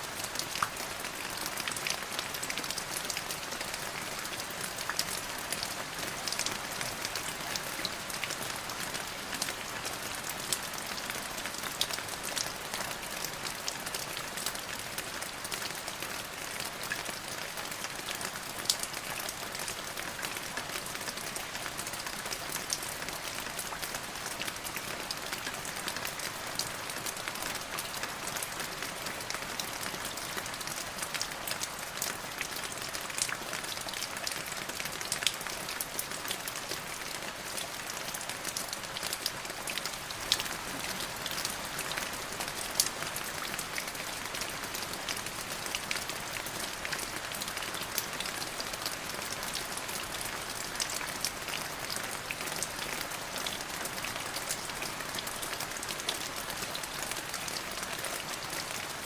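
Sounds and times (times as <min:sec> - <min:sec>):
rain hissing on a surface: 0:00.0 - 0:59.0.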